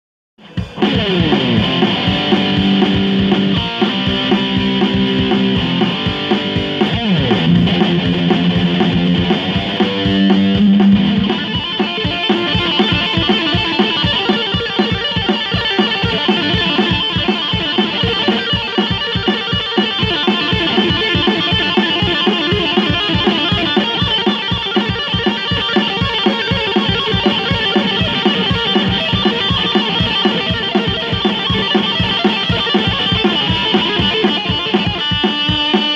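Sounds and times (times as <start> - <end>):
electric guitar: 0.4 - 35.9.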